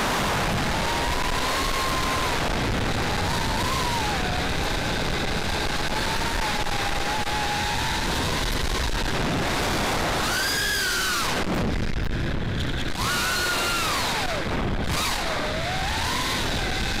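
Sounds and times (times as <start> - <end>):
drone propellers whining: 0.0 - 17.0
wind rush: 0.0 - 17.0.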